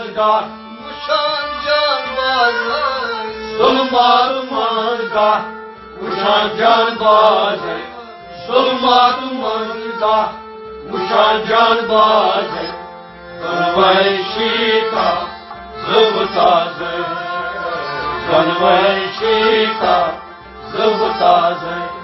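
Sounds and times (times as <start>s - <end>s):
harmonium: 0.0s - 22.0s
men singing: 0.0s - 22.0s
rabab: 0.0s - 22.0s.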